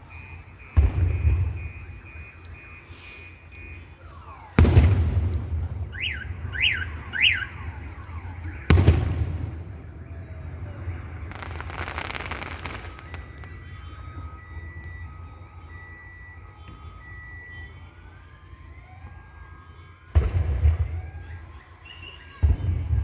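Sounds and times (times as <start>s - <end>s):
fireworks booming: 0.0s - 18.1s, 20.1s - 23.0s
car alarm whooping: 0.0s - 23.0s
fireworks crackling: 0.0s - 23.0s.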